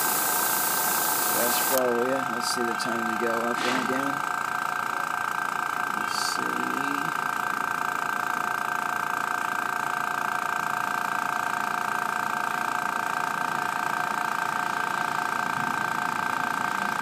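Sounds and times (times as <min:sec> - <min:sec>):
mini compressor whining: 0:00.0 - 0:17.0.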